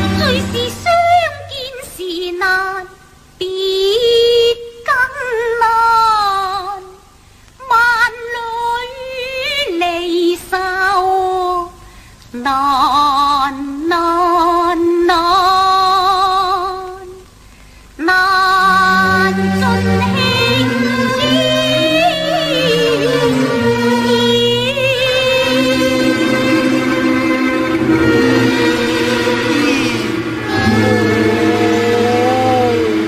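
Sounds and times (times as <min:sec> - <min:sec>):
woman singing with wavering vibrato: 0:00.0 - 0:11.8, 0:12.4 - 0:17.2, 0:18.0 - 0:33.0.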